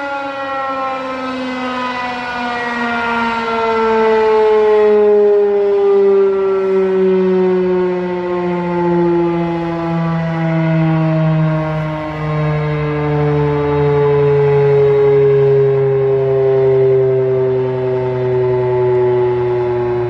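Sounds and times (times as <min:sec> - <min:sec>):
rotating warning siren winding down: 0:00.0 - 0:20.0.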